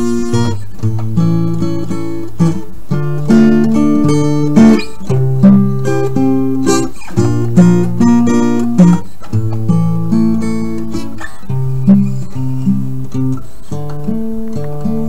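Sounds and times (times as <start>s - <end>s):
instrumental music of plucked notes: 0.0s - 15.0s.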